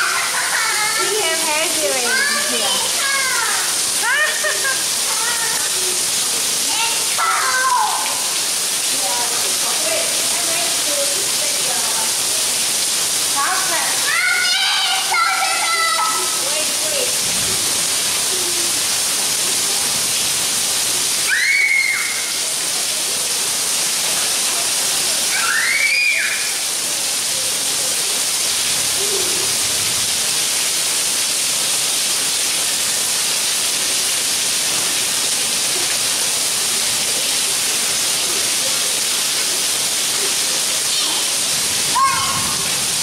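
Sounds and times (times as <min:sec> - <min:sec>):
heavy rain hiss: 0:00.0 - 0:43.0.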